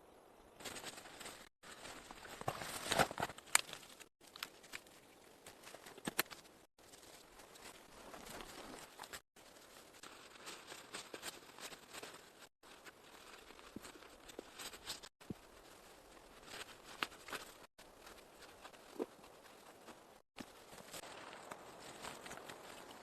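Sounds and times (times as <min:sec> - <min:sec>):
rustling and crinkling: 0:00.6 - 0:23.0.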